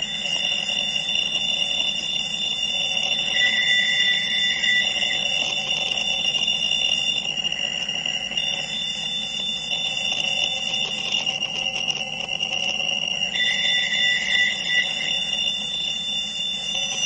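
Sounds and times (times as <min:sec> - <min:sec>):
steady high electronic tones: 0:00.0 - 0:17.0.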